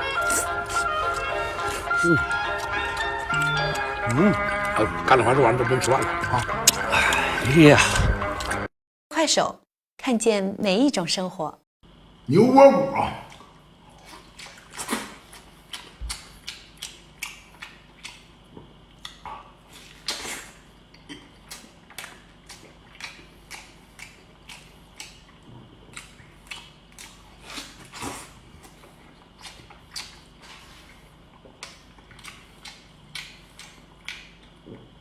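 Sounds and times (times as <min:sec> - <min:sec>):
wet chewing mouth sounds: 0:00.0 - 0:05.1, 0:06.0 - 0:08.7, 0:13.2 - 0:35.0.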